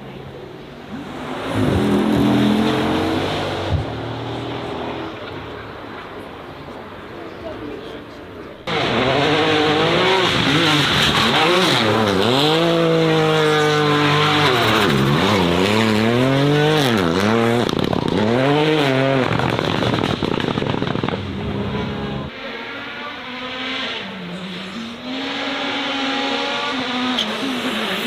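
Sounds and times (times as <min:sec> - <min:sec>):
race car engine revving: 0:00.8 - 0:05.7, 0:08.6 - 0:28.0.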